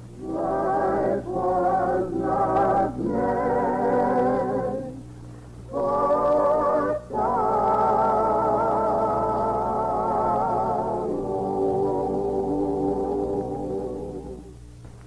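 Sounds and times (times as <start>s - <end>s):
choir singing held chords: 0.0s - 14.8s.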